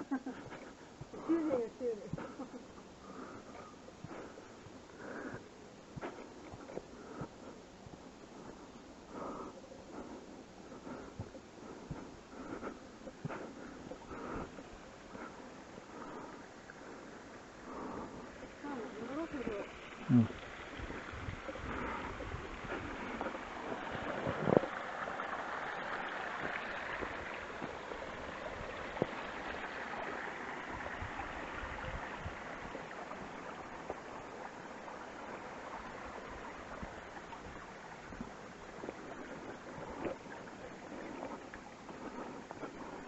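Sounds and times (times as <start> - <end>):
running water: 0.0 - 43.0.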